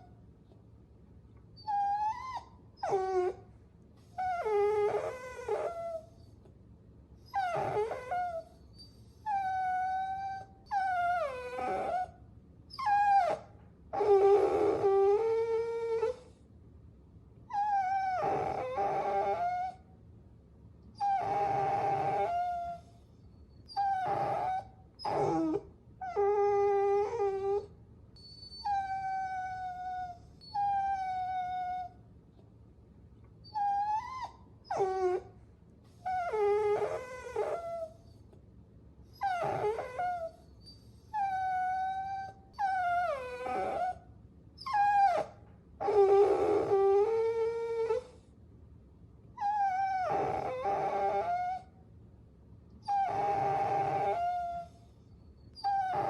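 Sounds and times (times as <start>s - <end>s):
puppies whining: 1.6s - 3.4s, 4.0s - 6.4s, 7.2s - 16.4s, 17.5s - 19.8s, 21.0s - 32.0s, 33.4s - 35.3s, 35.9s - 38.3s, 39.1s - 44.0s, 44.6s - 48.2s, 49.4s - 51.7s, 52.8s - 56.0s.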